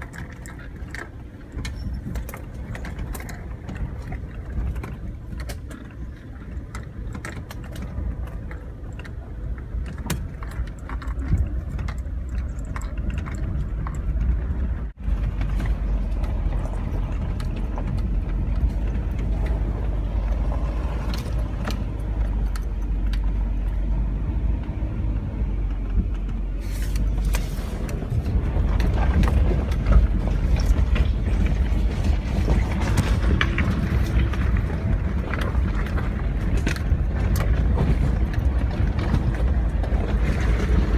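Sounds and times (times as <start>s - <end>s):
engine and tyre rumble: 0.0s - 40.9s
stones crunching under tyres: 0.0s - 40.9s.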